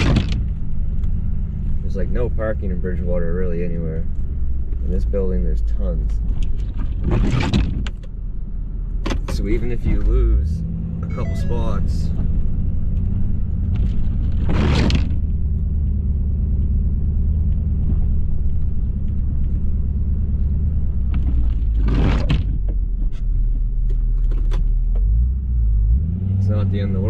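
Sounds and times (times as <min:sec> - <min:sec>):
diesel truck engine rumbling: 0:00.0 - 0:27.0.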